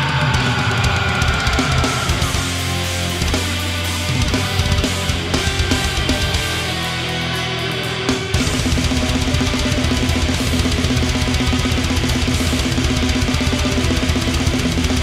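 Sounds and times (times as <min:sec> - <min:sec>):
fast metal drumming: 0:00.0 - 0:15.0
heavily distorted guitars and bass: 0:00.0 - 0:15.0.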